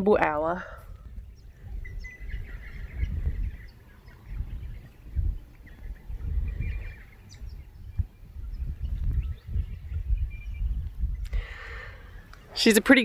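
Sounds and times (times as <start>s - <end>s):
birds chirping faintly: 0.0s - 13.0s
wind gusts on microphone: 0.0s - 13.0s.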